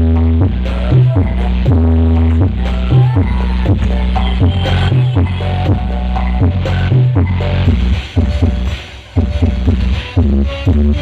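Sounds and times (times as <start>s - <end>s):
bass-heavy electronic music: 0.0s - 11.0s.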